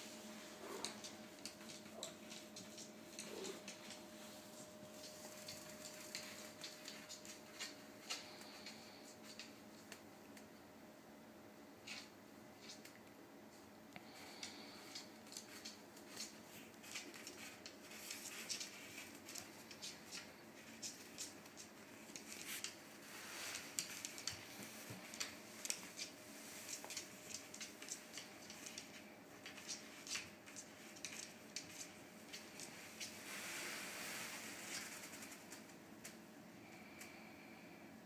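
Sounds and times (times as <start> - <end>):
low room hum: 0.0 - 38.0.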